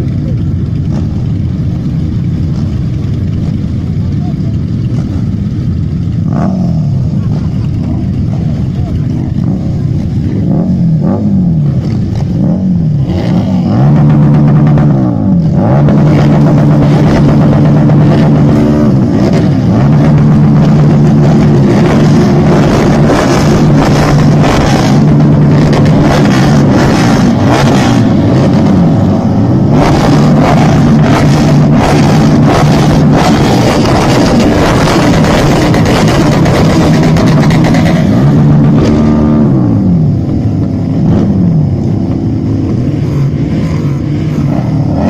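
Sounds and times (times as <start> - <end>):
motorcycle engine revving: 0.0 - 45.0
other motorcycles running: 0.0 - 45.0.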